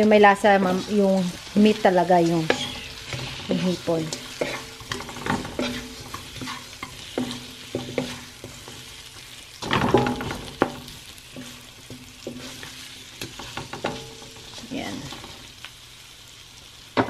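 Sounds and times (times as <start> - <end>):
wooden spatula scraping a pan: 0.0 - 15.5
shrimp sizzling in oil: 0.0 - 17.0.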